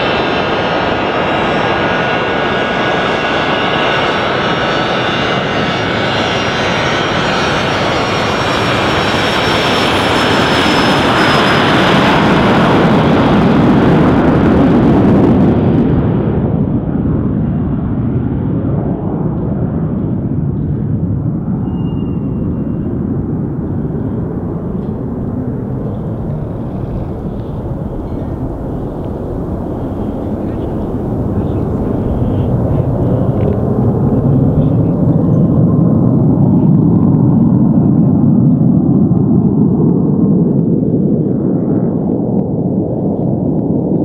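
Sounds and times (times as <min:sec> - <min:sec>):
distant jet rumble: 0:00.0 - 0:44.0
jet engine rush with high whine: 0:00.0 - 0:44.0.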